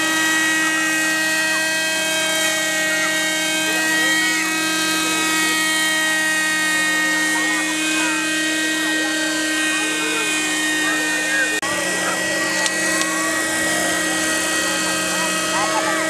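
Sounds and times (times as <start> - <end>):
helicopter whine: 0.0 - 16.0.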